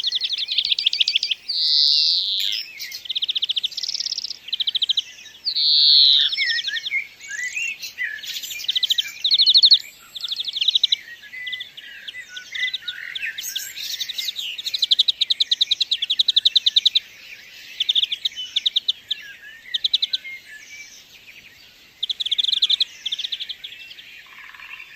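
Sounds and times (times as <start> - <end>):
finch singing trills: 0.0 - 24.9.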